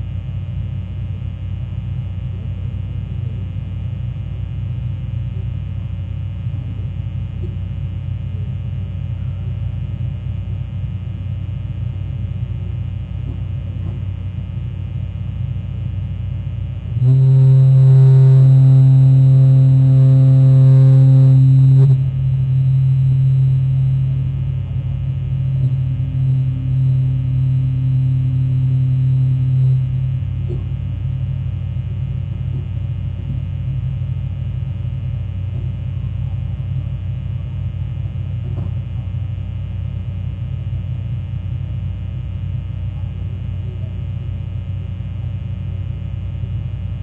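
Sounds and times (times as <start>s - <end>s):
steady low rumble: 0.0s - 47.0s
fog horn low tone: 1.5s - 41.1s.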